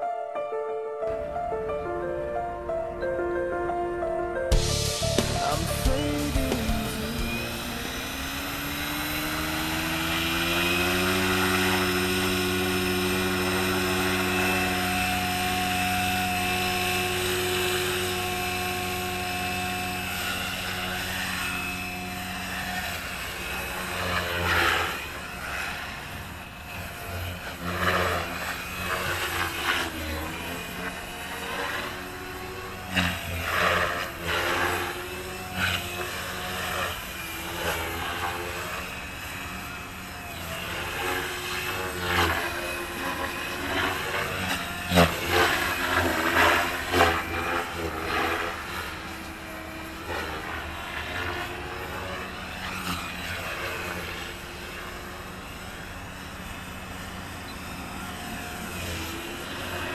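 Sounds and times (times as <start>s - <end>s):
rotor swooshes: 4.5s - 56.3s
rc helicopter motor whine: 4.5s - 59.9s.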